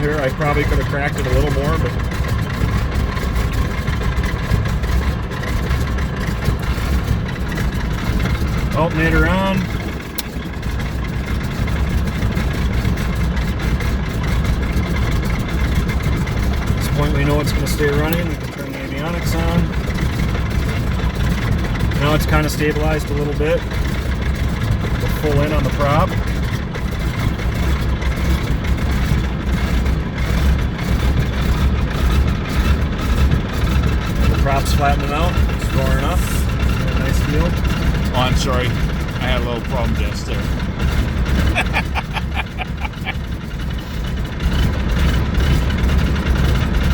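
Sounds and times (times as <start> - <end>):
radial aircraft engine idling: 0.0 - 46.9.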